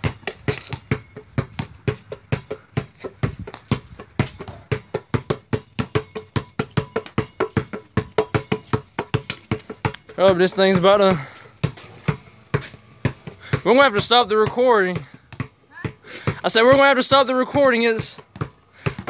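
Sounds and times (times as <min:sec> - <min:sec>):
basketball bouncing on concrete: 0:00.0 - 0:19.0.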